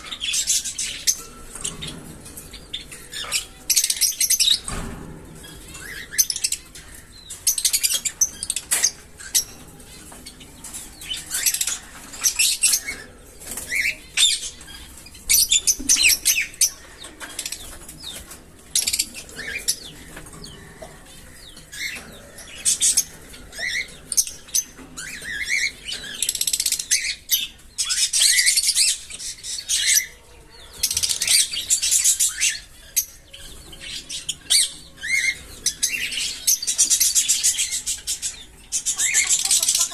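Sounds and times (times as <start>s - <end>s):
parrots chirping and chattering: 0.0s - 39.9s.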